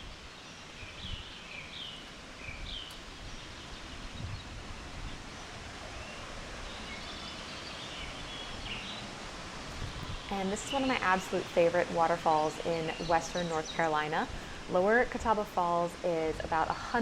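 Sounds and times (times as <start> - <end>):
creek and waterfall rushing: 0.0 - 17.0.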